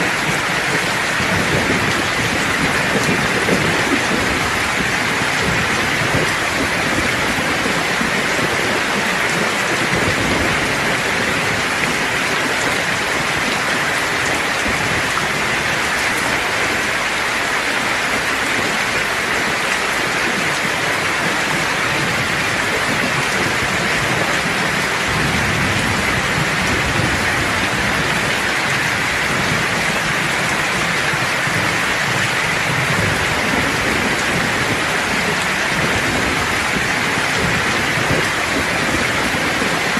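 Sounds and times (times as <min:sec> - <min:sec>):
low thunder rumbling: 0:00.0 - 0:39.9
rain falling: 0:00.0 - 0:39.9.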